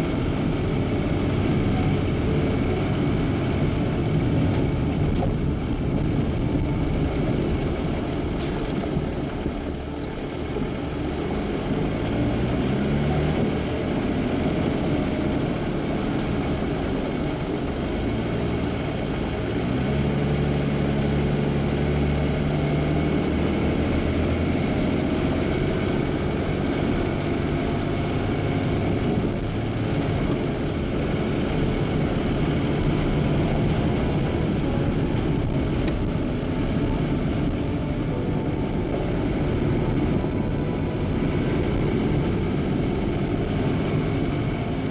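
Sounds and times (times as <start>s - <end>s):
car engine rumbling: 0.0s - 44.9s
road noise: 0.0s - 44.9s.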